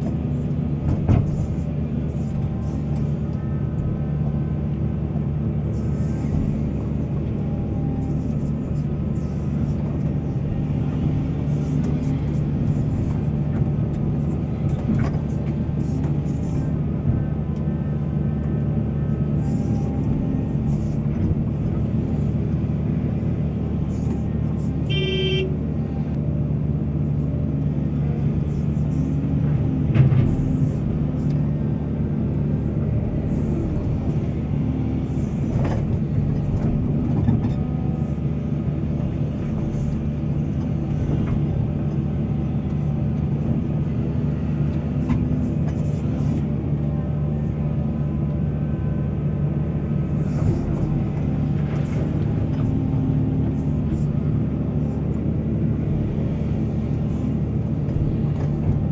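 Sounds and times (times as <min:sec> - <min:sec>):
diesel excavator engine running: 0:00.0 - 0:58.9.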